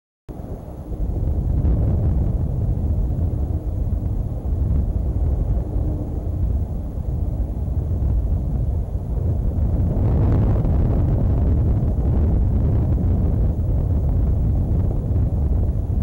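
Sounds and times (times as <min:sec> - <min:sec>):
wind buffeting a microphone: 0:00.3 - 0:16.0.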